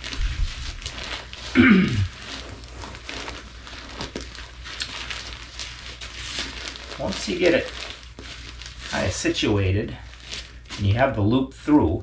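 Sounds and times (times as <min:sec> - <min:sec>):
parachute fabric rustling: 0:00.0 - 0:11.2.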